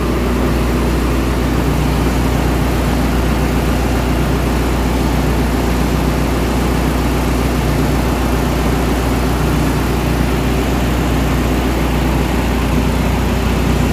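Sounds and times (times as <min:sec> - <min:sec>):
engine room machinery drone: 0:00.0 - 0:13.9.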